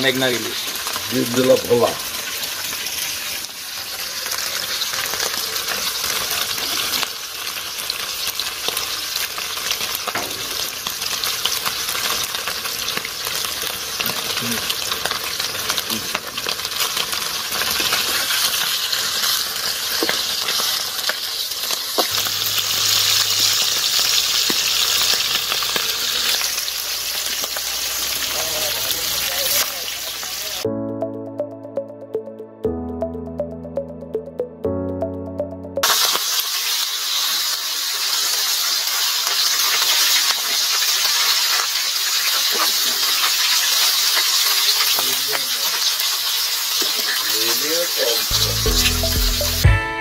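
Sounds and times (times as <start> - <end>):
fish deep-frying in oil: 0.0 - 30.7, 35.8 - 49.6.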